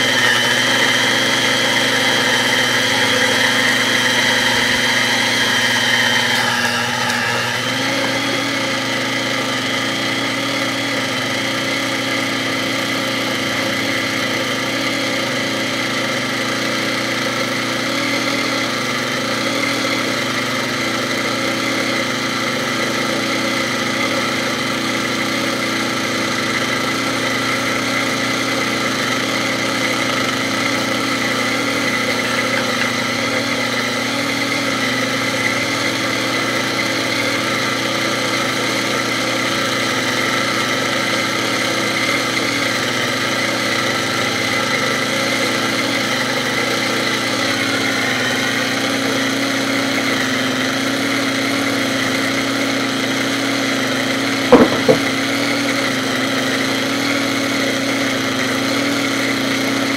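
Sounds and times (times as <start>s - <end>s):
hand vacuum motor whining: 0.0s - 59.9s.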